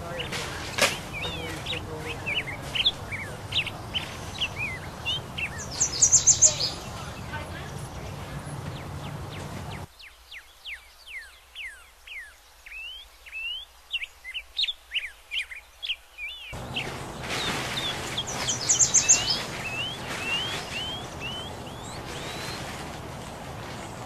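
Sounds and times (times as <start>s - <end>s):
songbirds chirping: 0.0s - 24.0s
steady outdoor hiss: 0.0s - 24.0s.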